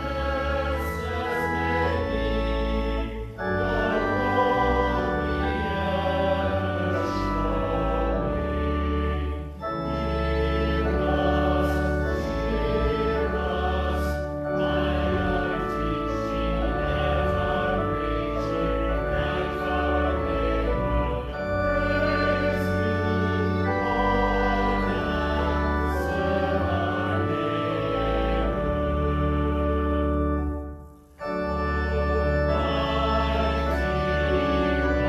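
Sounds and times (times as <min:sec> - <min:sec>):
choir singing a hymn: 0:00.0 - 0:35.0
organ chords: 0:00.0 - 0:35.0.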